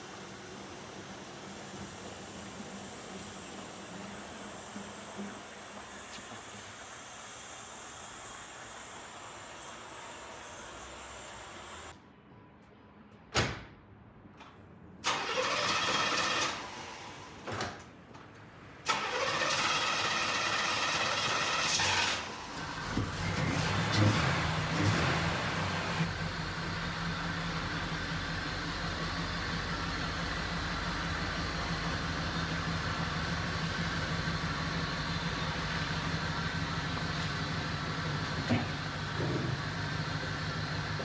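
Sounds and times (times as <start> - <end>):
car engine starting and running: 0.0 - 11.9, 15.0 - 17.5, 18.8 - 41.0.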